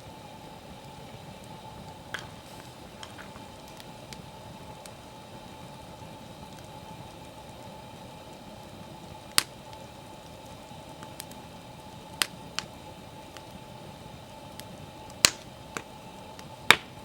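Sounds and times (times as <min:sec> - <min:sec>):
fire crackling pops: 0:00.0 - 0:17.0
wood fire hissing: 0:00.0 - 0:17.0.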